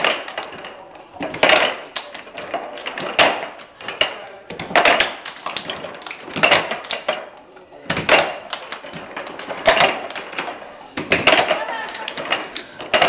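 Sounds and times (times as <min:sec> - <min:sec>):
cups clattering on wooden floor: 0:00.0 - 0:13.0.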